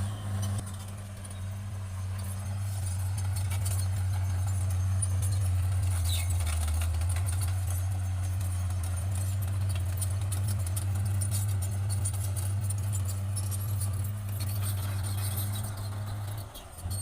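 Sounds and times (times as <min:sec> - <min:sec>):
diesel engine droning: 0:00.0 - 0:17.0
metallic clinking and rattling: 0:00.0 - 0:17.0.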